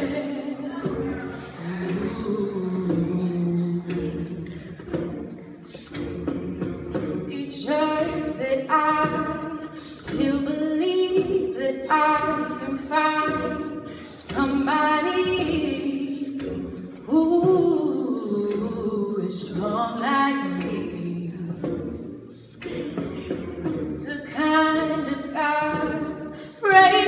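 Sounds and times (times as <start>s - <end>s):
woman singing lead: 0.0s - 4.8s, 7.3s - 21.8s, 24.0s - 27.0s
vocal backing harmonies: 0.0s - 27.0s.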